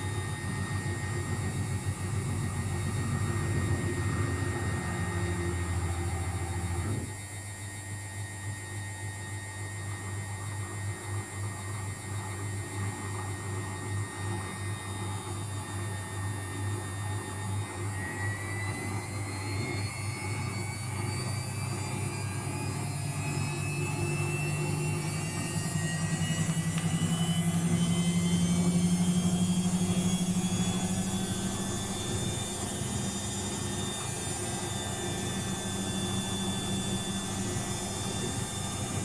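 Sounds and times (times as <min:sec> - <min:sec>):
washing machine drum spinning: 0:00.0 - 0:07.1, 0:12.2 - 0:39.0
motor whine rising: 0:00.0 - 0:39.0.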